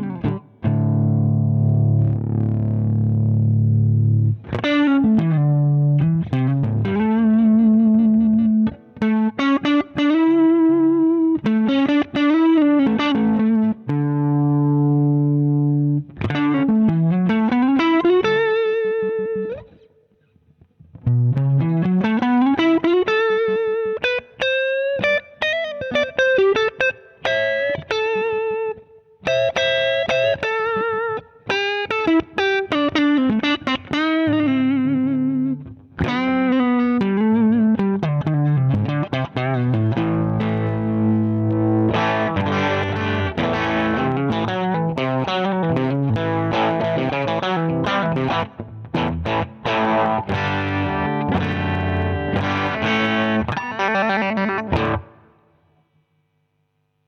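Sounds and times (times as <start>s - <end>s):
overdriven electric guitar: 0.0s - 55.9s.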